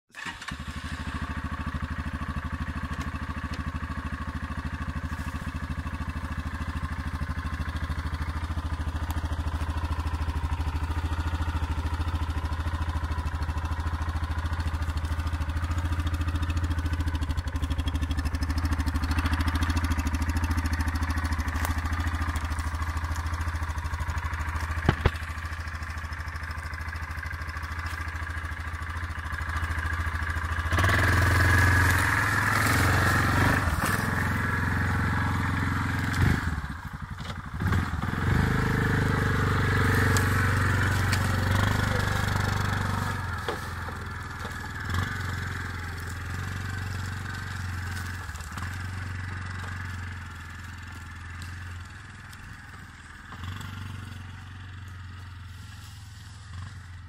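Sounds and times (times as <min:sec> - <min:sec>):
quad engine running: 0:00.1 - 0:57.0.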